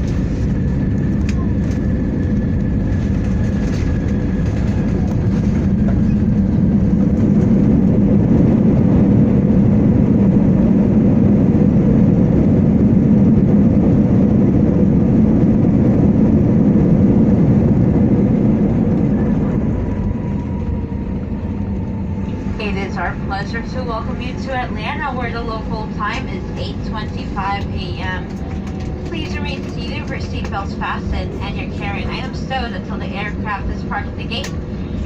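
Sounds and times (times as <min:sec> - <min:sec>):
jet engines reverse thrust rumble: 0:00.0 - 0:35.0.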